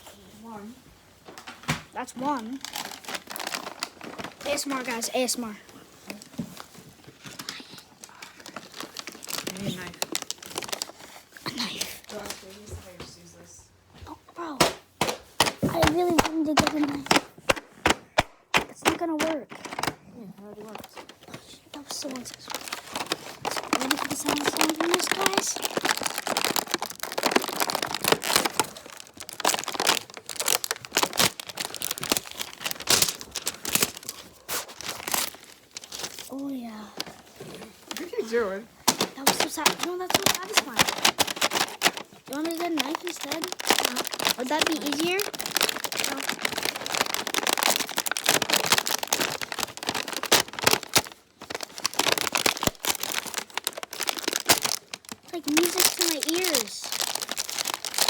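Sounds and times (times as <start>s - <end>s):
plastic packaging crinkling and tearing: 0.2s - 13.0s, 14.4s - 58.0s.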